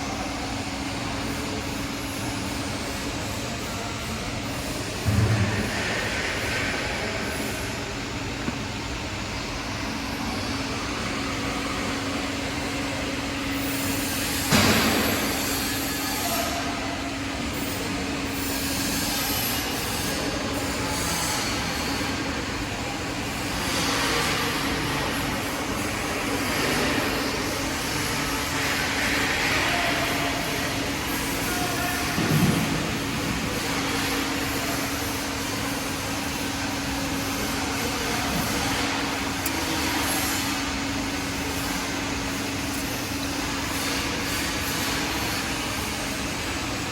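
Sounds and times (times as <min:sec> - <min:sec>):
metal bending machine humming: 0:00.0 - 0:46.9.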